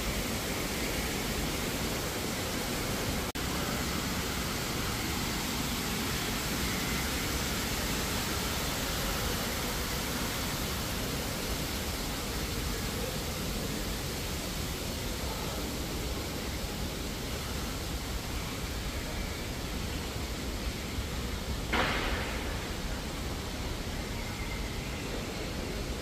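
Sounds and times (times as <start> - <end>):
rushing hiss of background noise: 0.0 - 26.0.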